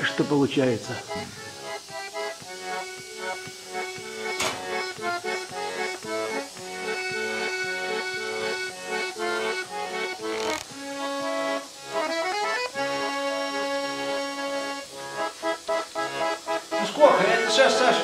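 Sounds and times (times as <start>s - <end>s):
accordion music: 0.0s - 18.0s.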